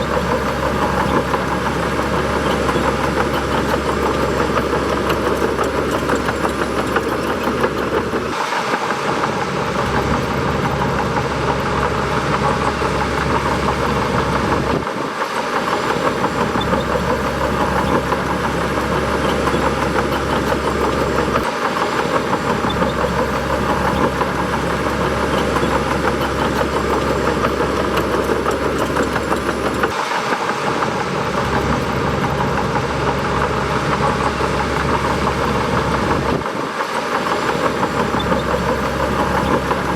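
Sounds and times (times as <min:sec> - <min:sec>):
bulldozer diesel engine rumbling: 0:00.0 - 0:39.9.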